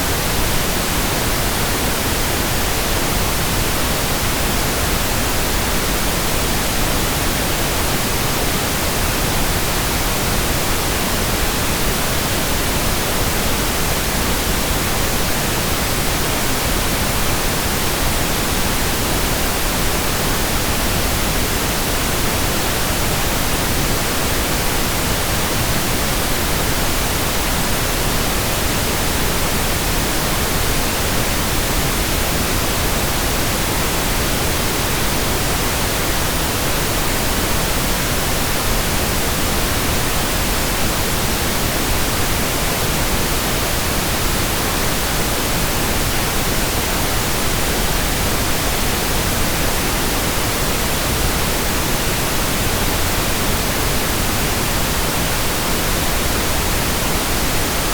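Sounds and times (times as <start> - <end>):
pink noise hiss: 0.0 - 57.9.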